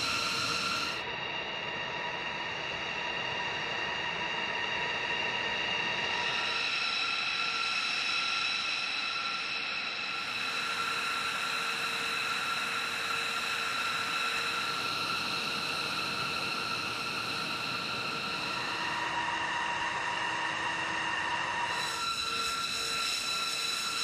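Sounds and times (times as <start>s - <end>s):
steady mechanical whine: 0.0s - 24.0s.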